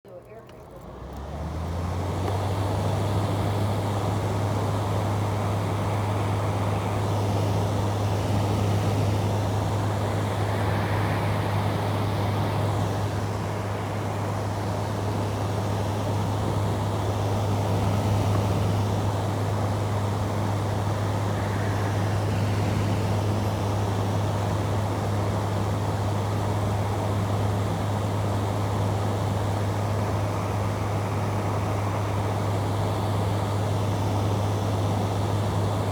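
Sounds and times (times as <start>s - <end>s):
fan air rushing: 0.1s - 35.9s.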